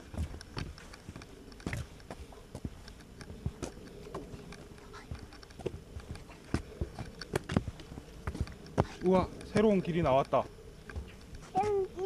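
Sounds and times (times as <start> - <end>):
footsteps on a hard path: 0.0 - 11.9.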